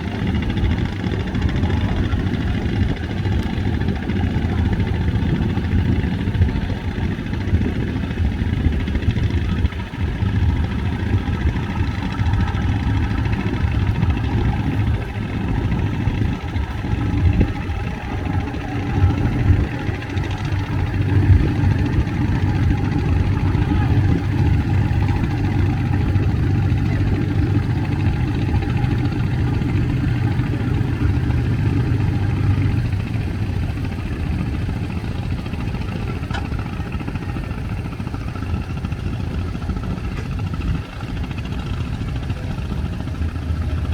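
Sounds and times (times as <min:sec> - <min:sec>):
boat engines droning: 0:00.0 - 0:43.9.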